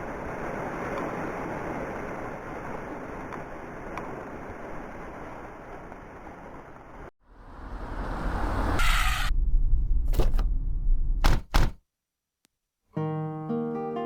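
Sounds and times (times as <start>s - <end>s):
rushing noise: 0.0s - 11.4s.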